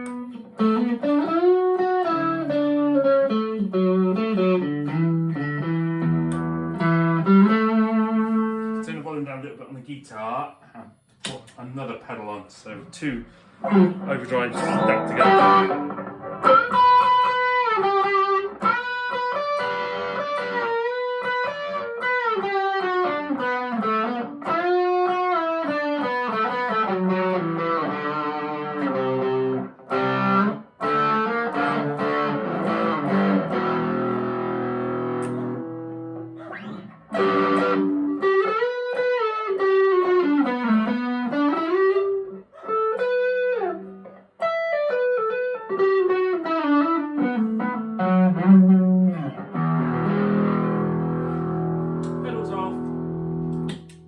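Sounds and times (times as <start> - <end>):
overdriven electric guitar: 0.0 - 8.9, 13.3 - 54.0.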